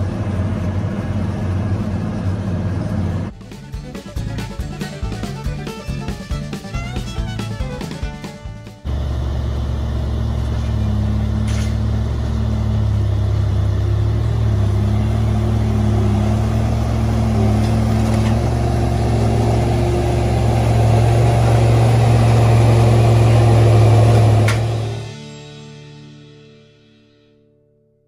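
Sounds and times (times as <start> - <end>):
tractor engine running: 0.0 - 25.2.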